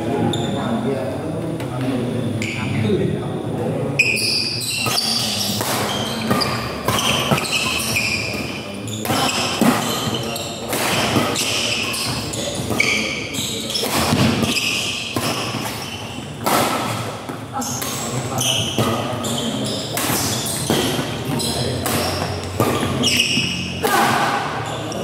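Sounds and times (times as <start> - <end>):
shoes squeaking on court: 4.0 - 23.8, 24.4 - 25.0.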